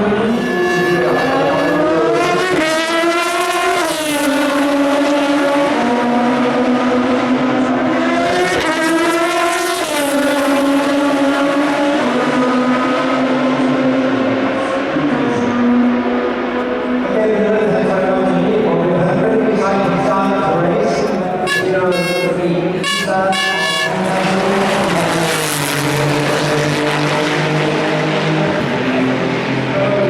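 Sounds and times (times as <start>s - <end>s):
race car engines accelerating: 0.0s - 30.0s.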